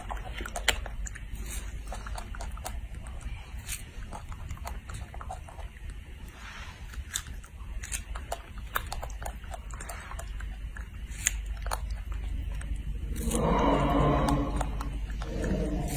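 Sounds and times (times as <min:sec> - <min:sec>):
wet chewing clicks and smacks: 0:00.0 - 0:06.3, 0:06.9 - 0:15.9
low hum: 0:00.0 - 0:15.9.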